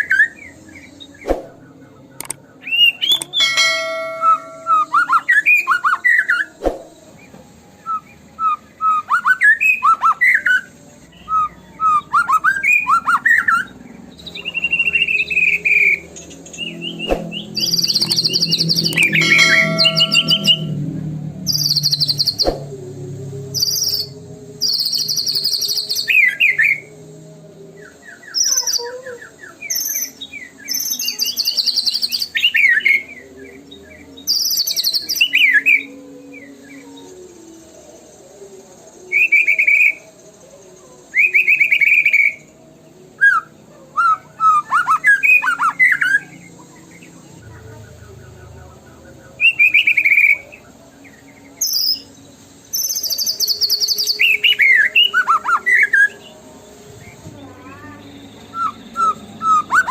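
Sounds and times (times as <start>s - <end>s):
bird singing whistles and trills: 0.0s - 20.8s, 21.4s - 22.7s, 23.5s - 26.9s, 27.8s - 37.8s, 38.7s - 42.6s, 43.2s - 59.9s.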